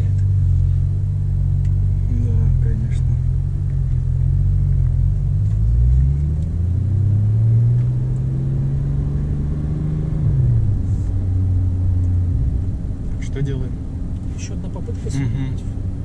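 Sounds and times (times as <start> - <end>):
car engine running inside cabin: 0.0 - 16.0.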